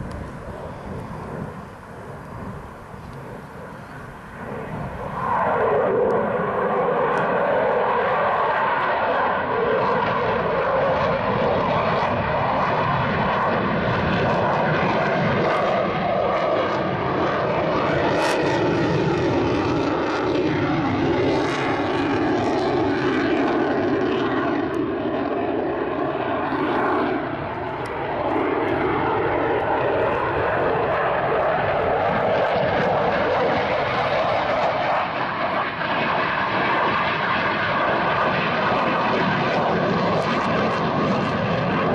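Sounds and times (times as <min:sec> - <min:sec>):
jet engines flying overhead: 0:00.0 - 0:41.9.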